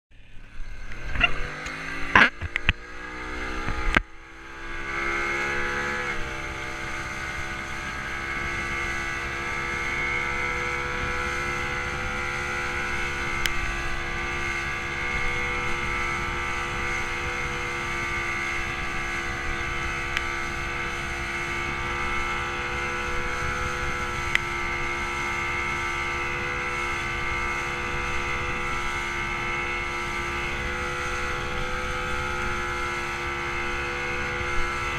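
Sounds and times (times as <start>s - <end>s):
wind: 0.1s - 34.9s
outboard motor revving: 0.4s - 34.9s.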